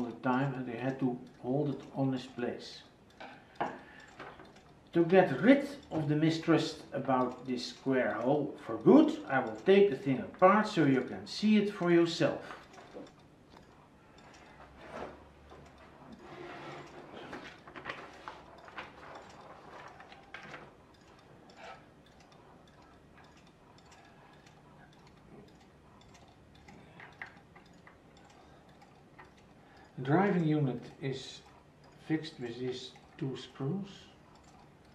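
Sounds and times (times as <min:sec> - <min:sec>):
light clicks of wooden mechanism: 0:00.0 - 0:34.9.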